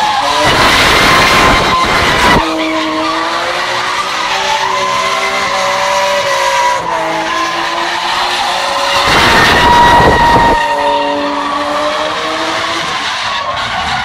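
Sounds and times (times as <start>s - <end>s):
car engine at high revs: 0.0s - 14.0s
tyres squealing: 0.0s - 14.0s.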